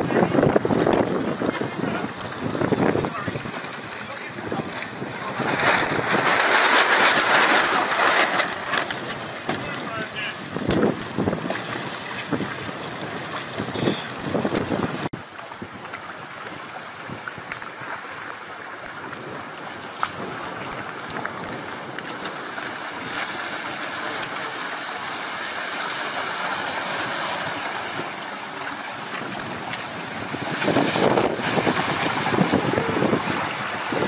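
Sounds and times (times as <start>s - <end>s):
rushing water of boat wash: 0.0s - 34.0s
wind buffeting microphone: 0.0s - 34.0s.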